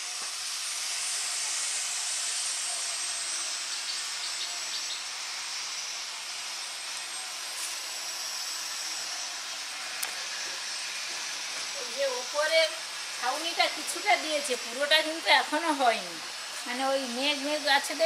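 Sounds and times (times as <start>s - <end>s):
steady high hiss: 0.0s - 18.0s
thin high-pitched whine: 0.0s - 18.0s.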